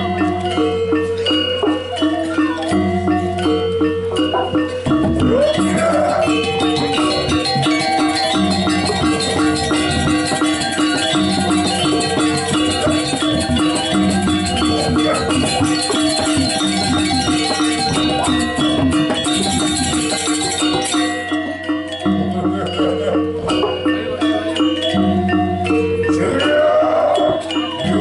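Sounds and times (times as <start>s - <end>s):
gamelan metallophones: 0.0s - 28.0s.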